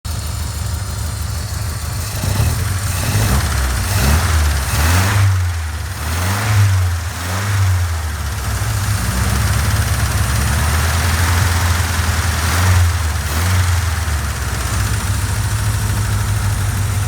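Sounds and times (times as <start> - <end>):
car engine idling and revving: 0.1 - 17.0.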